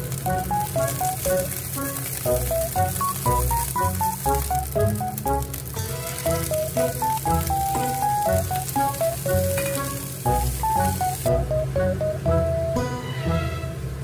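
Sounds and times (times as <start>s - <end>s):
spatula stir-frying in wok: 0.0s - 12.2s
vegetables sizzling in hot oil: 0.0s - 12.2s
light plucked melody: 0.0s - 14.0s.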